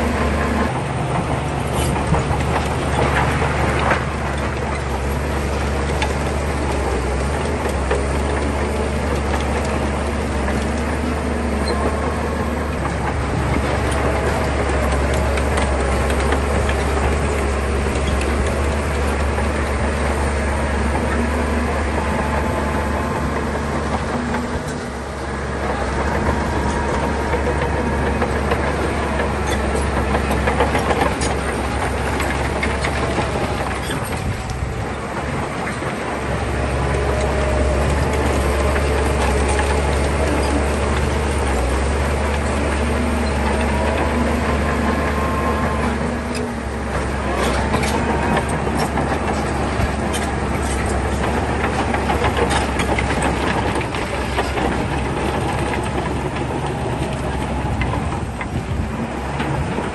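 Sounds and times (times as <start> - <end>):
clattering and grinding: 0.0 - 59.9
diesel machinery engine drone: 0.0 - 59.9.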